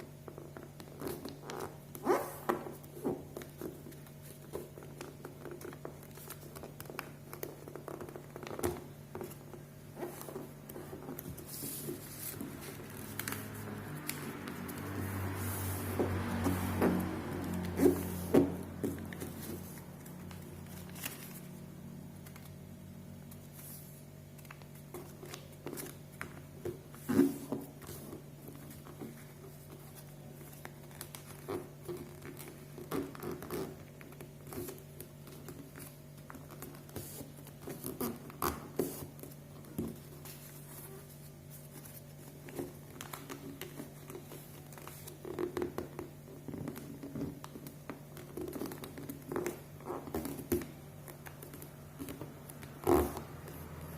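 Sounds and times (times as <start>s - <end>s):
paper folding and crinkling: 2.5s - 53.8s.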